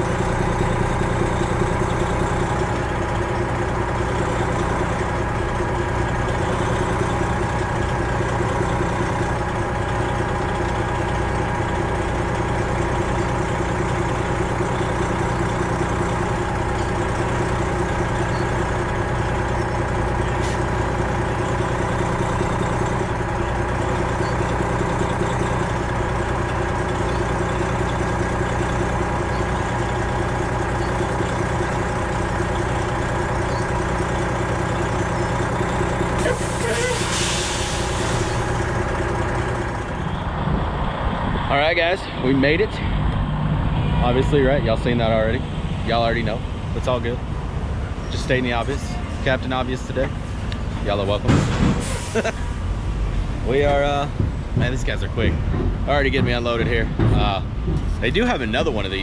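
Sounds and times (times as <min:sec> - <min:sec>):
truck diesel engine idling: 0:00.0 - 0:59.0.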